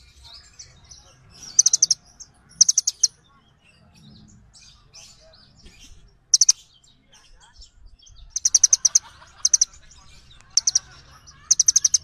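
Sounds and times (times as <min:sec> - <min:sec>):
faint bird twittering: 0:00.0 - 0:12.0
small birds chirping: 0:00.0 - 0:12.0.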